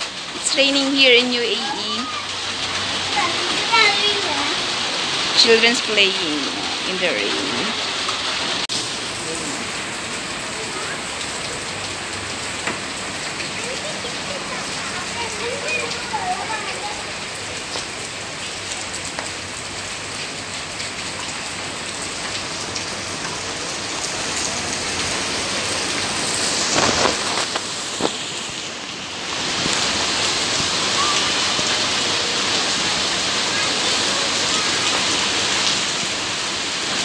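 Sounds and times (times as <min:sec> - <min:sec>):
rain falling on standing water: 0:00.0 - 0:37.0.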